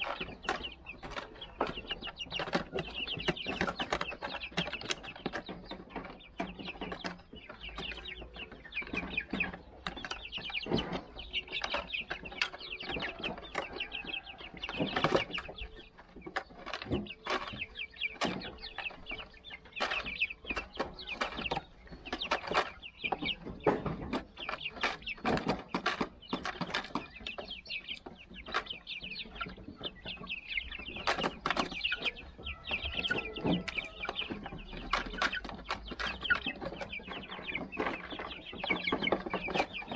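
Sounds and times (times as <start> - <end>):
chicks peeping and chirping: 0.0 - 39.9.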